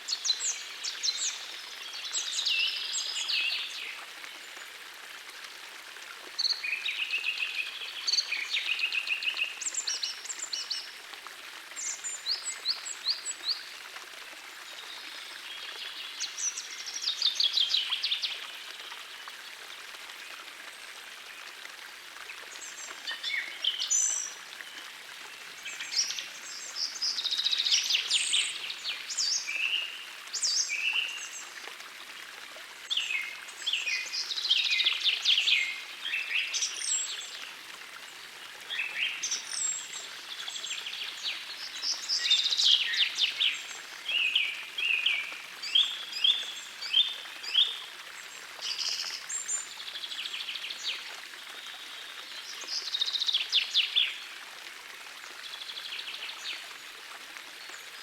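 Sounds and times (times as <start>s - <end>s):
faint forest stream rushing: 0.0s - 58.0s.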